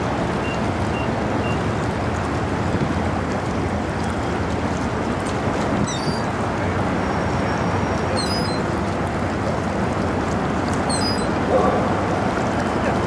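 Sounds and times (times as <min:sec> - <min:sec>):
ship low rumble: 0:00.0 - 0:13.0
water wash: 0:00.0 - 0:13.0.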